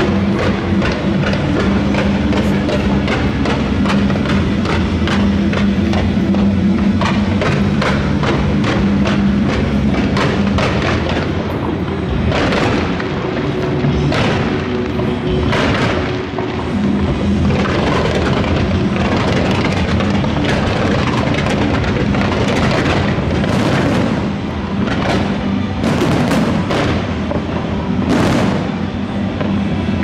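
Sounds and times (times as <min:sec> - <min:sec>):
fireworks booming and crackling: 0:00.0 - 0:30.0
loud music: 0:00.0 - 0:30.0
sharp firework bangs: 0:00.0 - 0:30.0.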